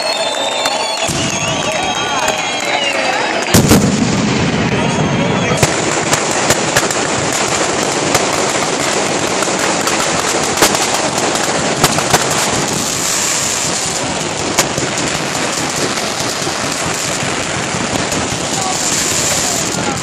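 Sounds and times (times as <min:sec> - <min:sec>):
firecrackers crackling: 0:00.0 - 0:20.0
sharp firework bangs: 0:03.4 - 0:20.0.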